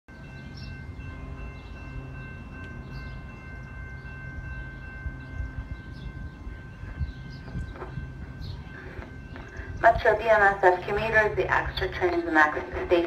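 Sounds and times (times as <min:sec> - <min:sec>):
low train rumble: 0:00.1 - 0:13.0.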